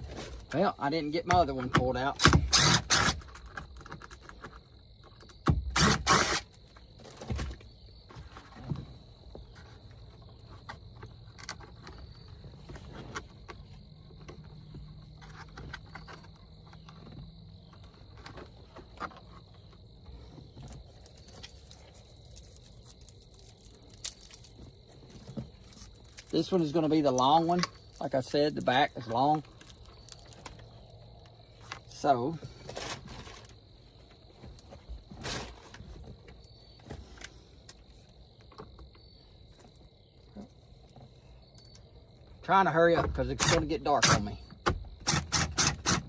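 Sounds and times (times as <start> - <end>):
crickets trilling: 0.0 - 46.0.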